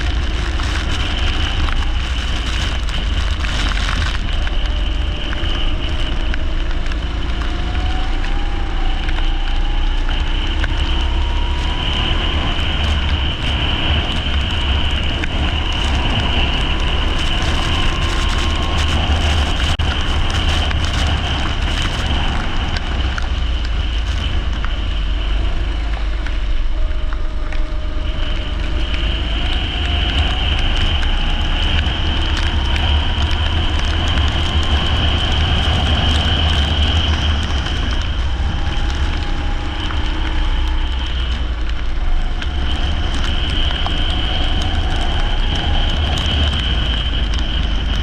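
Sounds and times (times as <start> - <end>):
go-kart engine racing: 0.0 - 48.0
wind rumble on microphone: 0.0 - 48.0.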